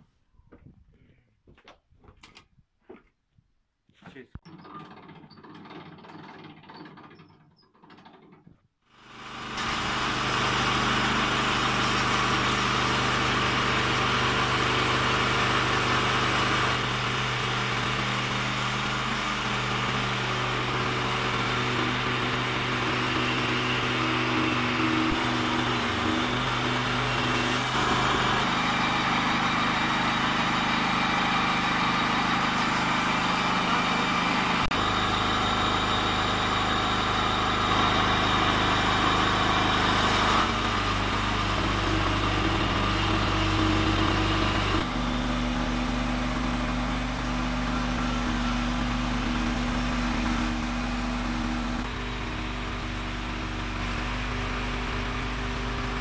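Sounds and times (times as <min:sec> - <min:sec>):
band saw cutting log: 0:09.0 - 0:56.0
engine drone: 0:09.0 - 0:56.0.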